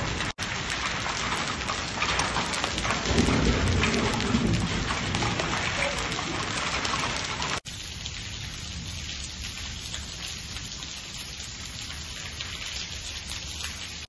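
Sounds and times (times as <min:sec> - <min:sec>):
rain on hard paving: 0:00.0 - 0:14.0.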